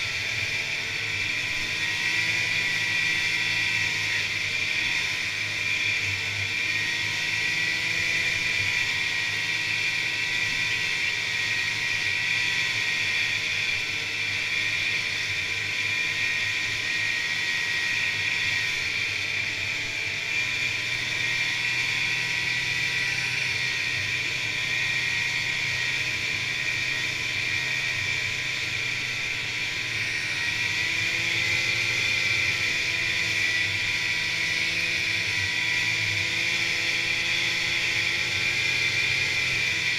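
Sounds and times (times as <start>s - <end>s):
snowmobile engine drone: 0.0s - 39.9s
steady high whine: 0.0s - 39.9s.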